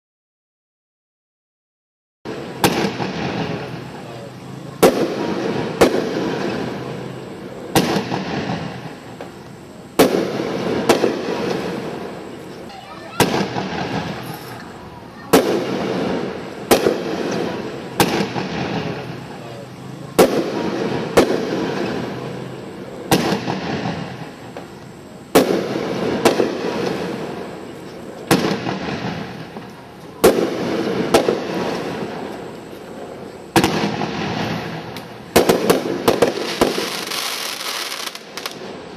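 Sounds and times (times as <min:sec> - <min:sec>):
firework shots banging: 0:02.3 - 0:19.4, 0:20.1 - 0:38.8.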